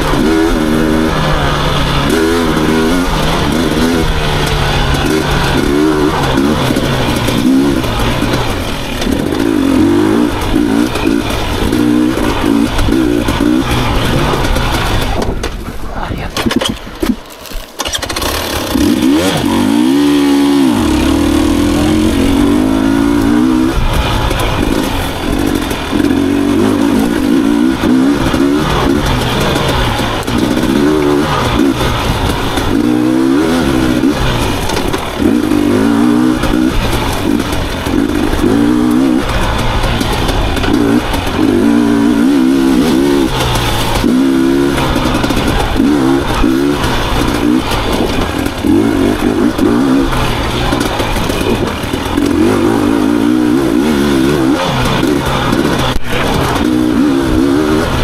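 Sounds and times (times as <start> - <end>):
motorcycle engine revving: 0.0 - 15.8, 16.4 - 58.0.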